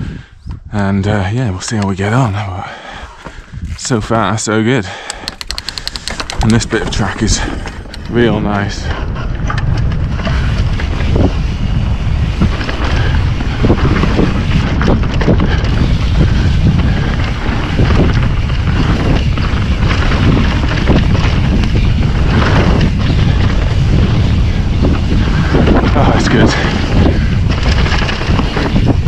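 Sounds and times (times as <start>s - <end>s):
wind buffeting microphone: 0.0s - 29.0s
bike tyres rumbling on dirt: 2.0s - 29.0s
bike knocking and clattering: 3.2s - 3.9s, 5.0s - 11.2s, 12.4s - 29.0s.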